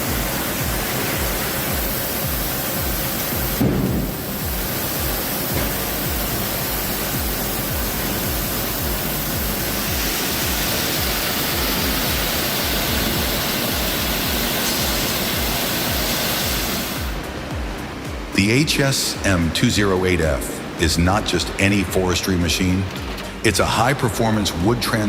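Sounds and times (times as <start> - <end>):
background music with steady beat: 0.0 - 25.0.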